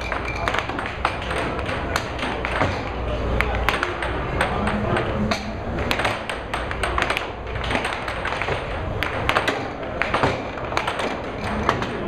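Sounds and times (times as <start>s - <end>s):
air hockey puck clacking: 0.0s - 12.0s.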